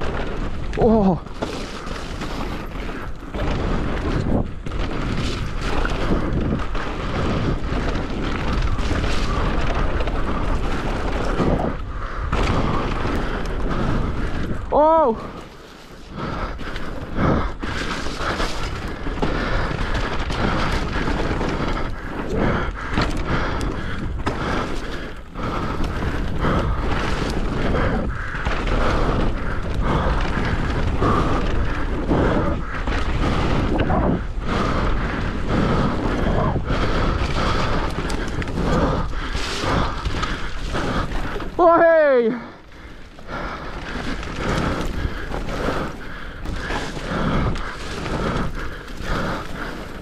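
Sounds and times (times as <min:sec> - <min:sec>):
bike rattling: 0:00.0 - 0:50.0
wind rumble on microphone: 0:00.0 - 0:50.0.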